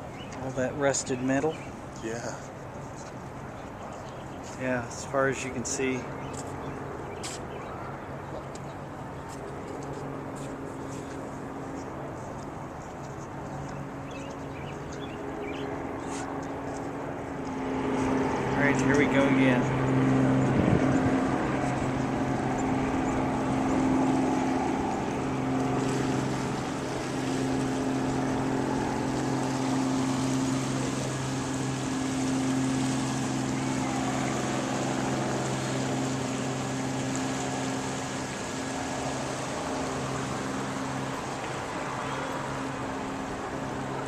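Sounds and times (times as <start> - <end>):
engine droning: 4.6 - 44.0.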